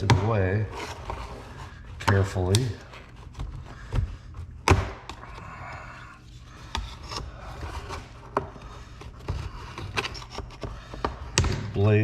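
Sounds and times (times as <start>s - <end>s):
plastic panel scraping and rubbing: 0.0s - 12.0s.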